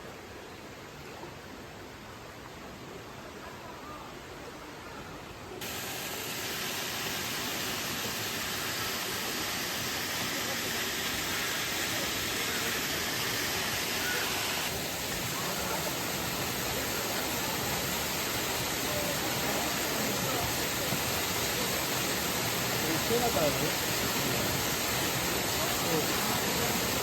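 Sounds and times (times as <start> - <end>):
rushing water hiss: 0.0 - 27.0.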